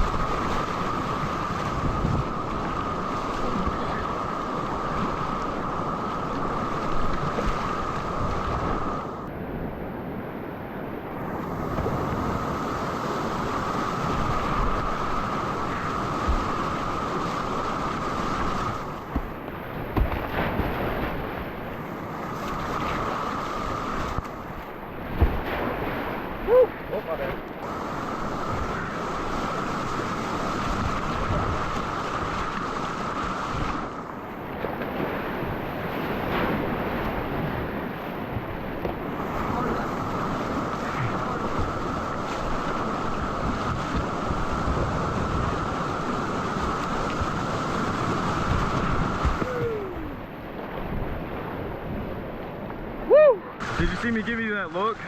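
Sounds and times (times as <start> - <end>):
wind buffeting microphone: 0.0 - 54.0
rushing whitewater: 0.0 - 55.0.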